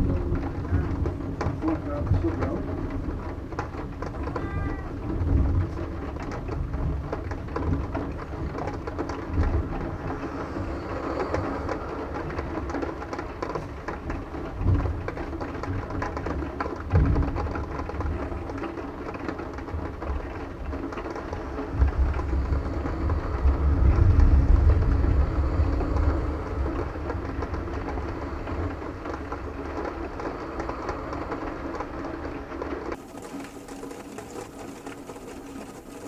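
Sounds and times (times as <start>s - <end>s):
low rumble of thunder: 0.0s - 33.0s
rain falling: 0.0s - 36.0s.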